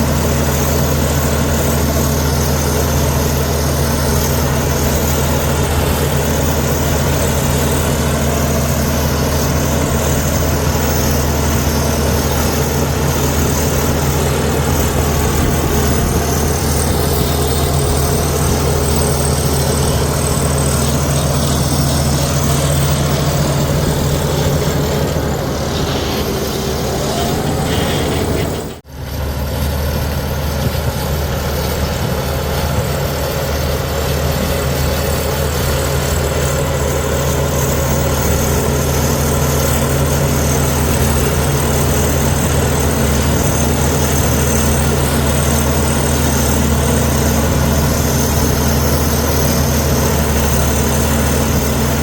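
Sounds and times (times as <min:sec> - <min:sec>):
heavy diesel engine droning: 0:00.0 - 0:52.0.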